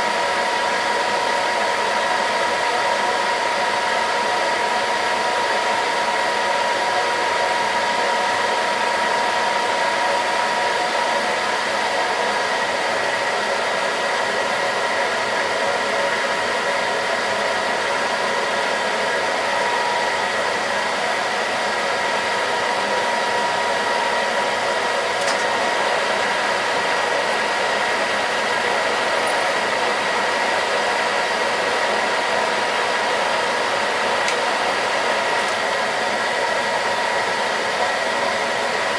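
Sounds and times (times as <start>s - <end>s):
metal lathe whining: 0.0s - 38.9s.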